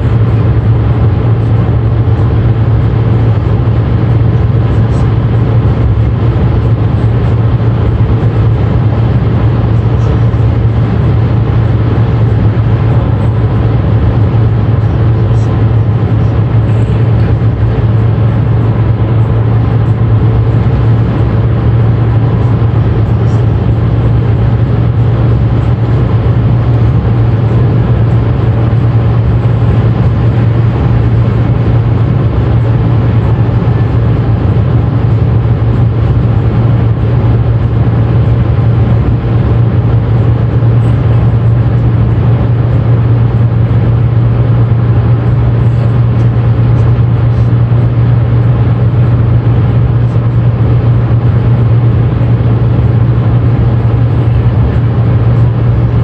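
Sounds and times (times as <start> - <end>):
car cabin road and engine noise: 0.0 - 56.0.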